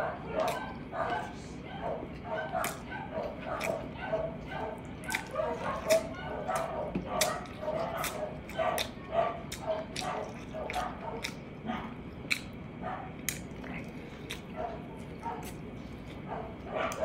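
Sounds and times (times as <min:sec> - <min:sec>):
open-mouthed chewing and lip-smacking: 0:00.0 - 0:17.0.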